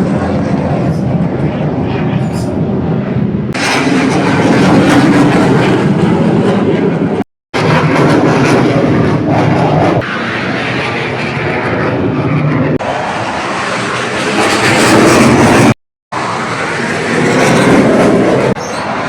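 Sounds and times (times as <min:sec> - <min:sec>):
jet aircraft engines roaring: 0:00.0 - 0:19.0.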